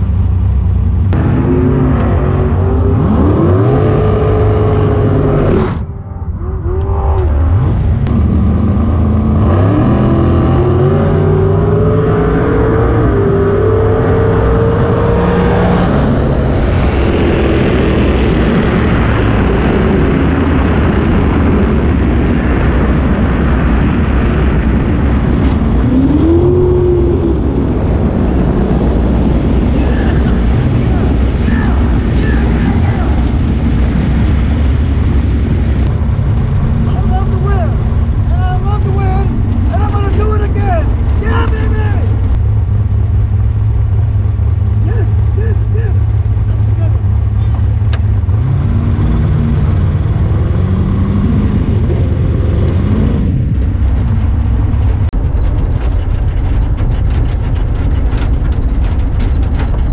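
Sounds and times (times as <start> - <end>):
dragster engine at full throttle: 0.0 - 59.9.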